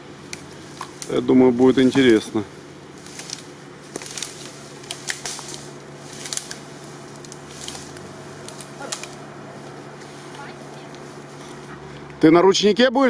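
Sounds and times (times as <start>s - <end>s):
log dragged over dry leaves: 0.5s - 11.8s.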